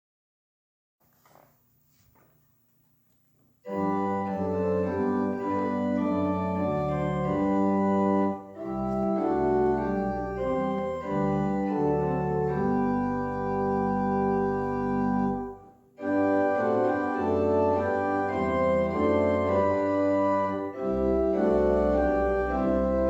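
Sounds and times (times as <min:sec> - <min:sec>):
organ playing slow chords: 0:03.6 - 0:23.0.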